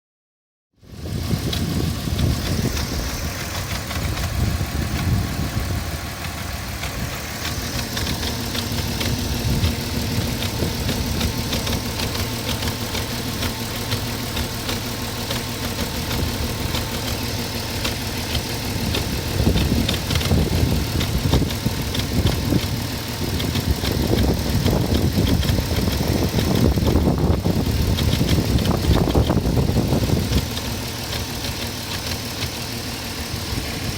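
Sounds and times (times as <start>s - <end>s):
car engine running: 0.8s - 33.9s
fast engine ticking: 0.8s - 33.9s.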